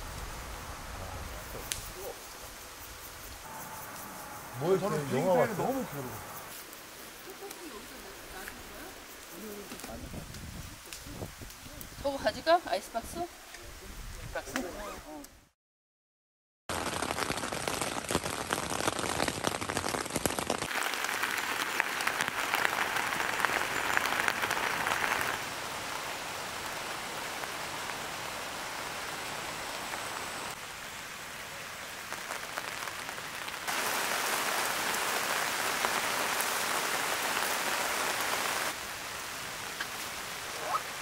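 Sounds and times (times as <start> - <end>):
rain tapping on tent fly: 0.0 - 12.2, 16.7 - 41.0
rain on grass and trees: 0.0 - 15.3, 16.7 - 41.0.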